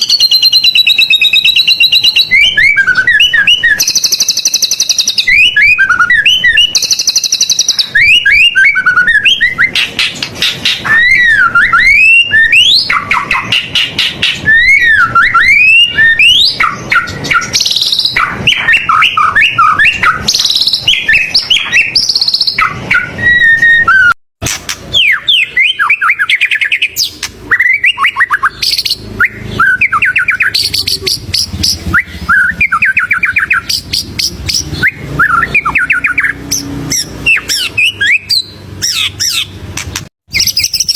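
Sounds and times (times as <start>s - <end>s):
bird singing whistles and trills: 0.0s - 24.2s, 24.9s - 39.6s, 40.3s - 40.9s.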